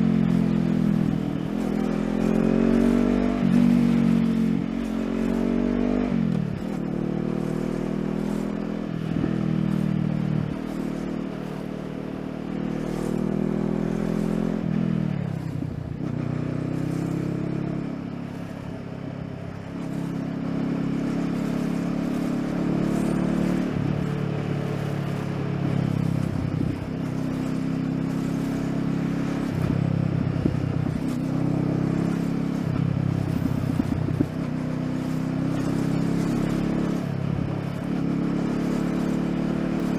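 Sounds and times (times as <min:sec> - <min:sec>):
motorcycle engine through gears: 0:00.0 - 0:39.9.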